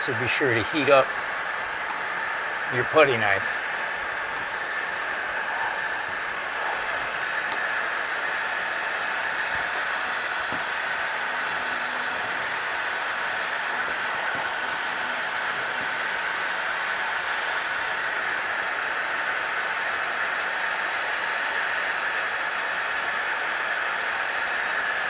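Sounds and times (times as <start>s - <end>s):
heat gun fan hissing: 0.0s - 25.0s.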